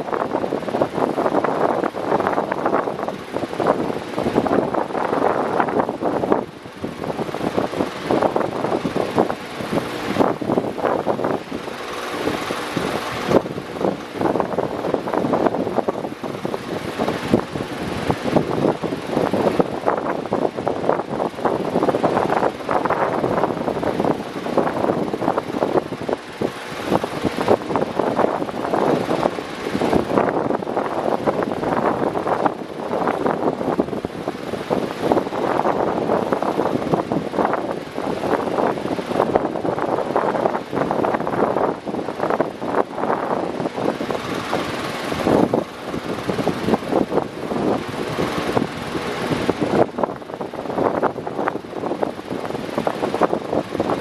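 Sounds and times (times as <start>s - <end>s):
electric fan airflow buffeting: 0.0s - 54.0s.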